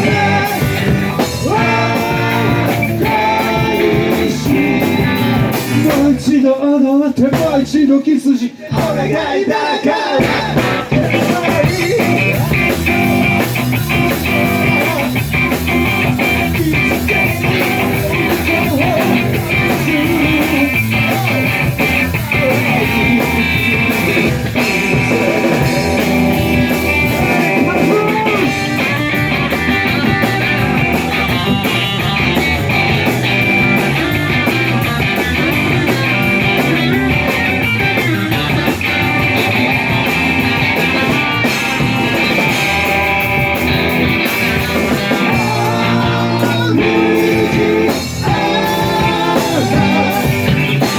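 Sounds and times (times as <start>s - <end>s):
drum kit: 0.0s - 6.4s, 7.0s - 7.9s, 8.7s - 50.9s
electric guitar: 0.0s - 6.4s, 9.9s - 50.9s.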